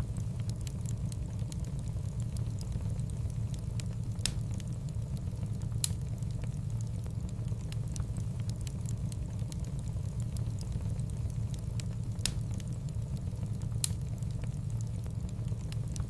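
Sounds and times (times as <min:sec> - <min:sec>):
fire low rumble: 0:00.0 - 0:16.0
wood fire crackles and pops: 0:00.0 - 0:16.0.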